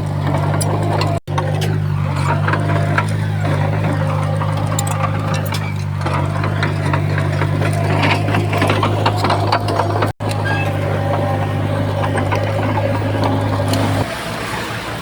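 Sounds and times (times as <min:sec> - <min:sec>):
metal clanks and rattles: 0:00.0 - 0:14.1
diesel engine running: 0:00.0 - 0:15.0.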